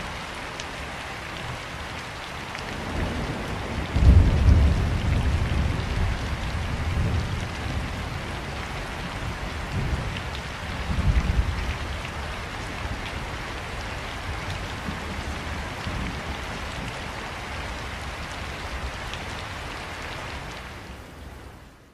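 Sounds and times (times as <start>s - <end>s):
heavy rain on street: 0.0s - 21.9s.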